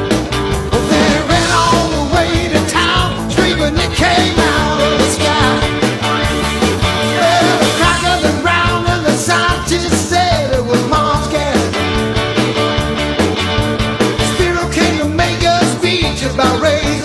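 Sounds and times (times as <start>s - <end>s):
upbeat rock and roll music: 0.0s - 17.0s.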